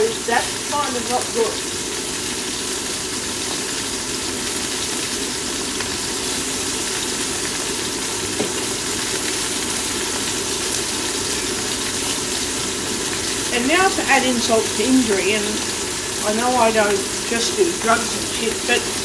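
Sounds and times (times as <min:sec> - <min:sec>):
sausages sizzling in frying pan: 0:00.0 - 0:19.0.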